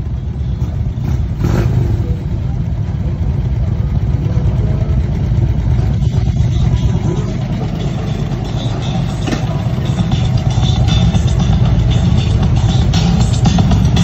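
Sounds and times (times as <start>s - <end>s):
motorcycles idling: 0.0s - 14.0s.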